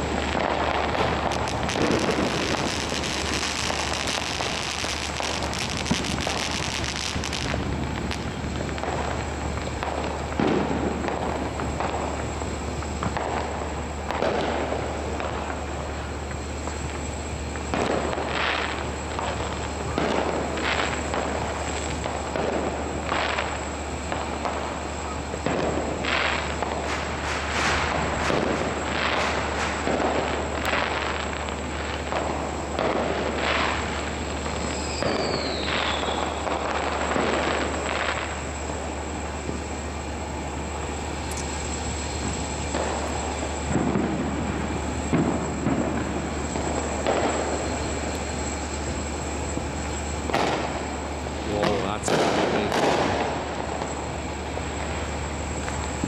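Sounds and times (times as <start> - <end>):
faint fireworks crackles: 0.0 - 56.0
fireworks hissing burst: 0.0 - 56.0
steady low hum: 0.0 - 56.0.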